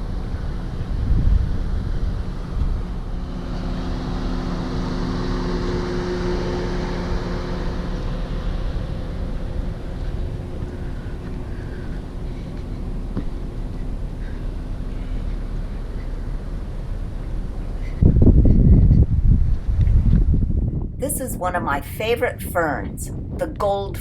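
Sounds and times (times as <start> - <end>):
road rumble: 0.0 - 24.0
vehicle engine hum: 0.0 - 24.0.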